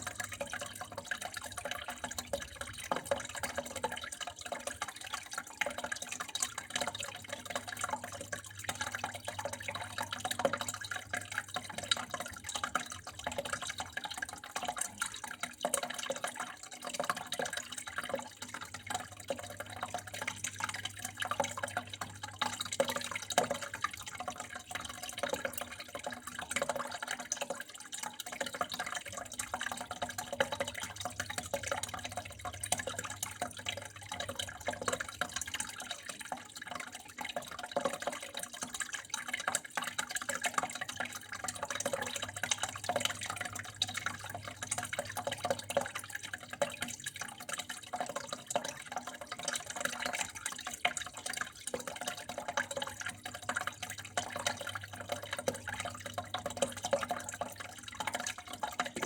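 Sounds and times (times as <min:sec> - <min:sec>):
small splashes and drips: 0:00.0 - 0:59.0
water flowing and trickling: 0:00.0 - 0:59.0.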